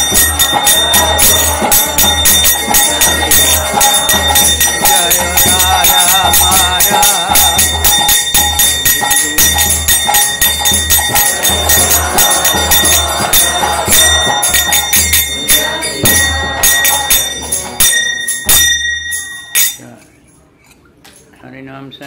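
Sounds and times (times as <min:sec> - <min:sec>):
drum beats: 0:00.0 - 0:19.8
small hand cymbals struck: 0:00.0 - 0:20.0.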